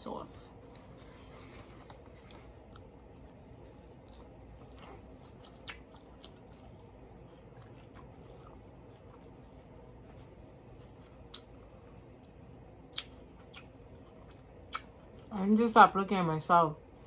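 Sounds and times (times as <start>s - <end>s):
person chewing food: 0.7s - 15.3s.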